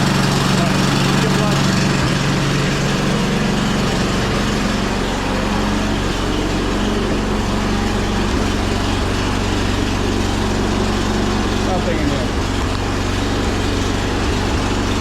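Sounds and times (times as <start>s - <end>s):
snow blower engine running: 0.0s - 15.0s.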